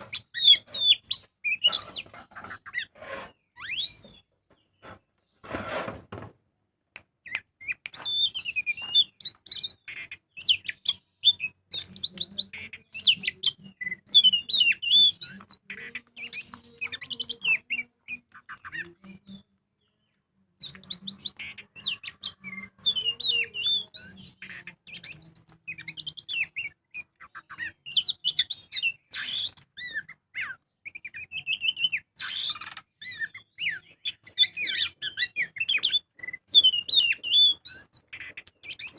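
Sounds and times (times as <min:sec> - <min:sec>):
bird singing chirps and whistles: 0:03.5 - 0:04.4, 0:07.2 - 0:20.0, 0:20.6 - 0:38.9.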